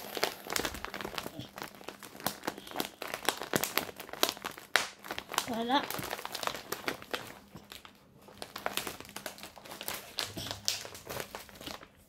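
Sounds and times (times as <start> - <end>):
sharp crackles and clicks: 0.0 - 11.8
packaging crinkling: 0.0 - 12.0.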